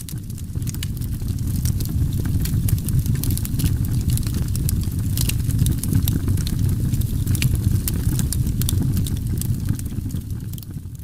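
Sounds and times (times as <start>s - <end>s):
campfire crackling and popping: 0.0s - 11.0s
fire low rumble: 0.0s - 11.0s.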